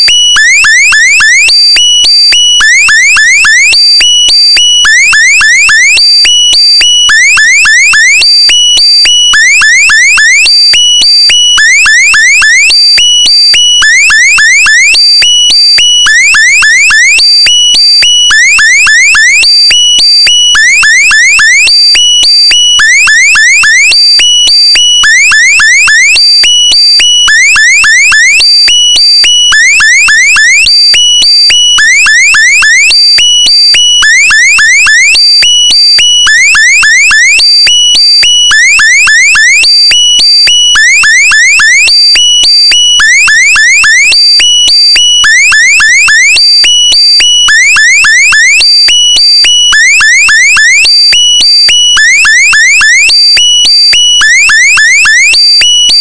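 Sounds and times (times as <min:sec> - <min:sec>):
high-pitched steady beep: 0:00.0 - 0:56.0.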